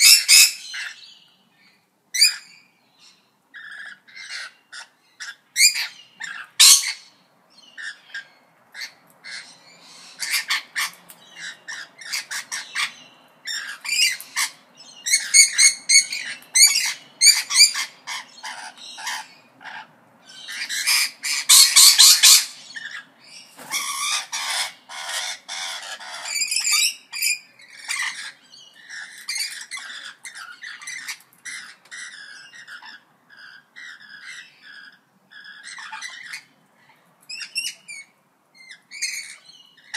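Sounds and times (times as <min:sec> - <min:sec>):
parrots squawking and chattering: 0:00.0 - 0:39.9.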